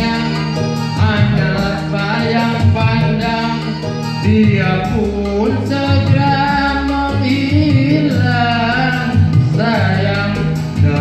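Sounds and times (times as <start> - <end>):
electronic keyboard chords and bass: 0.0 - 11.0
person singing into microphone: 0.0 - 11.0.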